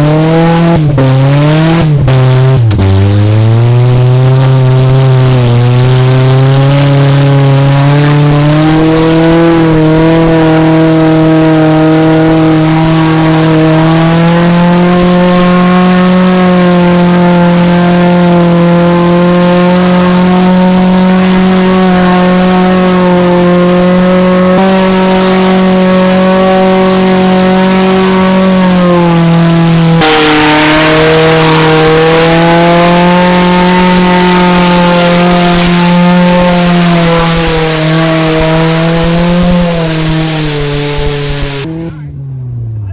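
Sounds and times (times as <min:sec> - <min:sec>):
car engine revving high: 0:00.0 - 0:42.1.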